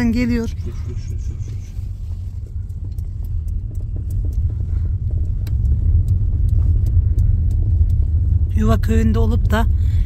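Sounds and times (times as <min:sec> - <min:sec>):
light ticks and rattles: 0:00.0 - 0:10.0
road and engine rumble: 0:00.0 - 0:10.0.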